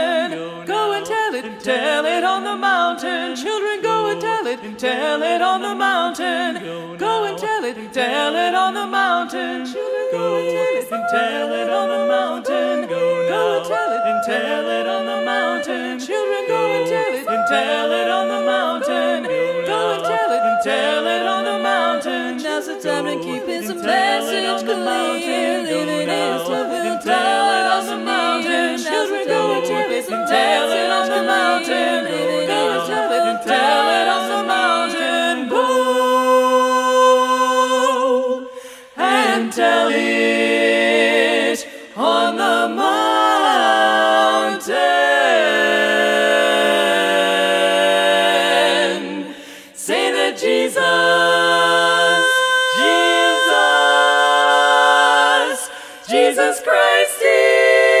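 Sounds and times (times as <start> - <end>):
women singing a cappella harmony: 0.0 - 58.0.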